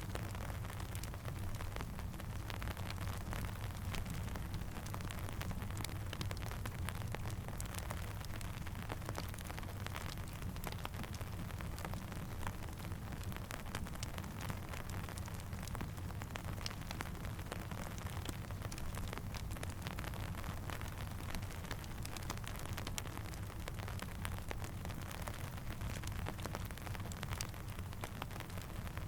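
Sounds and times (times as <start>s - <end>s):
crackling campfire: 0.0s - 29.0s
steady rain: 0.0s - 29.0s.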